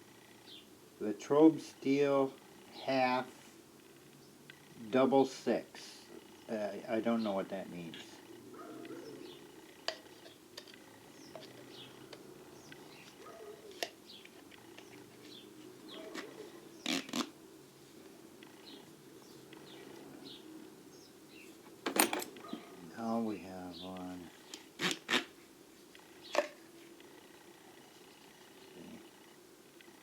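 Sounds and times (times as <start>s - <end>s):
birds chirping: 0.0s - 24.8s, 25.7s - 30.0s.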